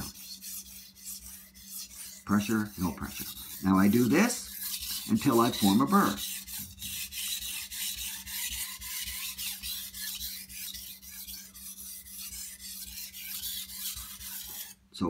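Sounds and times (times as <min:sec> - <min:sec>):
knife sharpening on a stone: 0:00.0 - 0:14.8.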